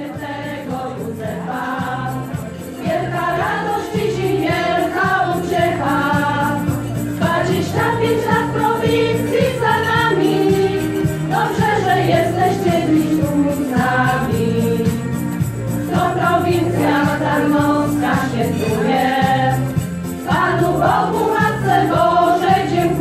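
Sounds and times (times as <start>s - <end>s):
women's choir singing: 0.0s - 23.0s.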